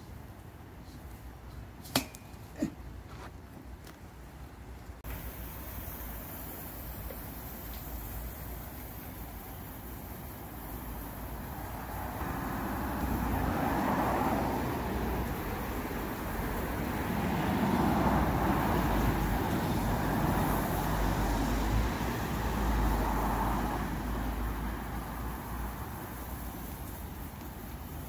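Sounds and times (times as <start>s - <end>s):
steady low traffic rumble: 0.0s - 28.0s
cars passing: 5.0s - 28.0s.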